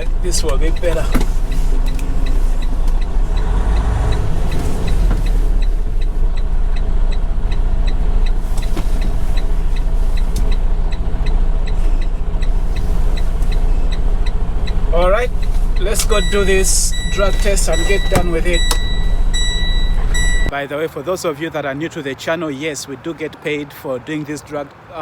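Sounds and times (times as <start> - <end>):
diesel engine running: 0.0 - 20.5
regular ticking: 0.0 - 20.6.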